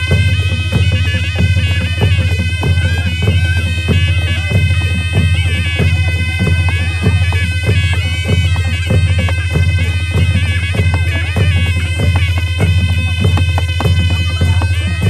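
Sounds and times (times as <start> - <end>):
reed pipe wavering melody: 0.0 - 15.0
steady drum beat: 0.0 - 15.0.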